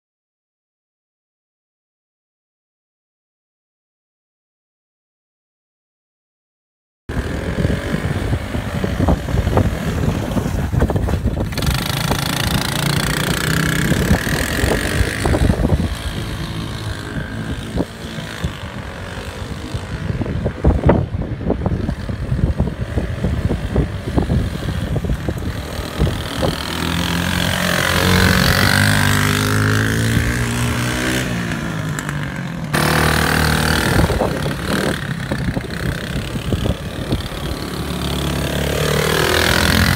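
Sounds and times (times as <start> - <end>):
small quad engine revving: 7.1 - 10.8, 11.4 - 39.9.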